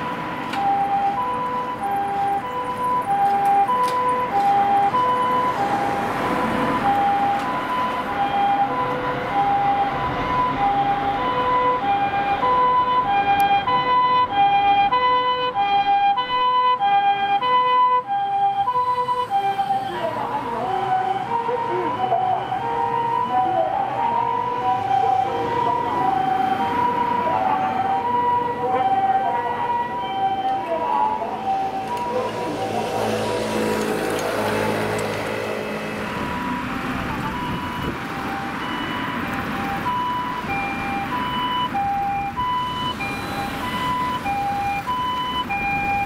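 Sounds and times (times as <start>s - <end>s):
road traffic: 0.0s - 46.0s
two-tone ambulance siren: 0.0s - 46.0s.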